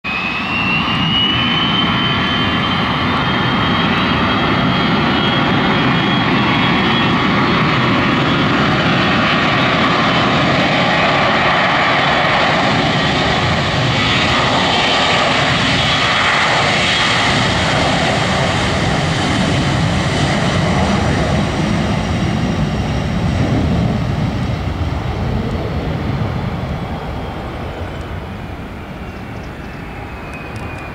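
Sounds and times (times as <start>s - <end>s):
jet engines roaring with high whine: 0.0s - 30.9s.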